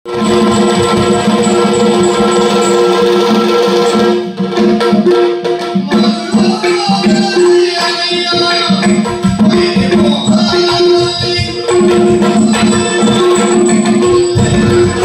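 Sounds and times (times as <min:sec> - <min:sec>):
drum strokes in quick rhythm: 0:00.1 - 0:15.0.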